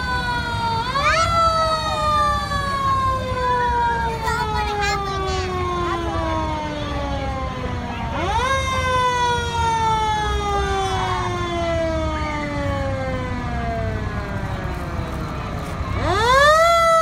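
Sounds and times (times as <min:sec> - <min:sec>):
fire truck siren: 0:00.0 - 0:17.0.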